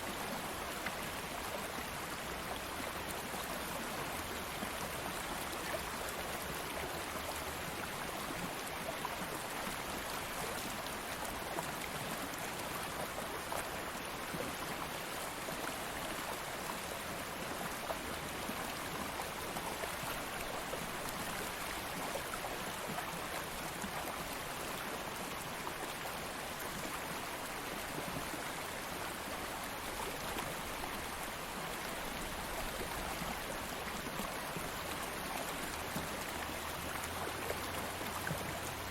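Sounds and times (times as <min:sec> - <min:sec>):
stream of water flowing: 0:00.0 - 0:38.9.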